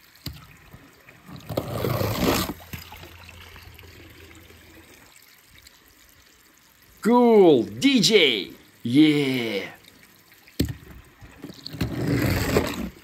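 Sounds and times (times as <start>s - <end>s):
water splashing in a tub: 0.0s - 13.0s
water trickling: 0.0s - 13.0s.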